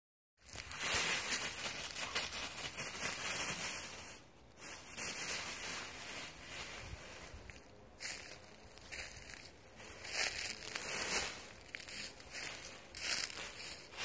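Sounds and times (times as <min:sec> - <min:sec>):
dry leaves crunching and rustling: 0:00.4 - 0:14.0.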